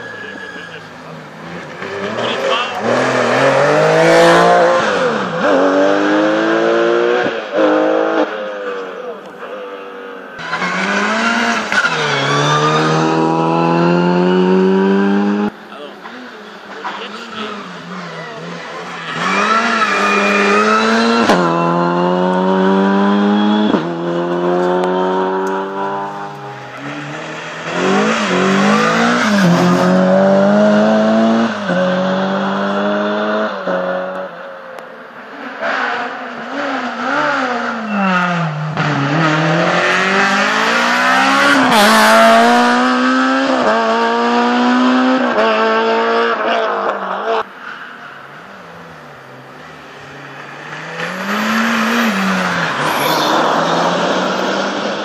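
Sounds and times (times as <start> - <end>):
rally car engine revving: 0.0 - 34.5, 35.1 - 55.0.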